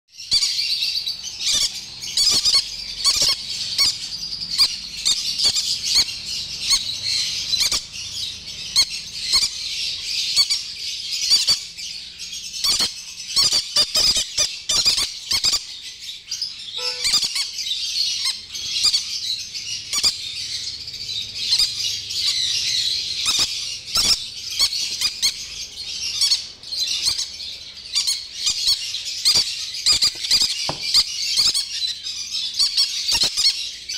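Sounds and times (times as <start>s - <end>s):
parrots squawking: 0.3s - 33.9s.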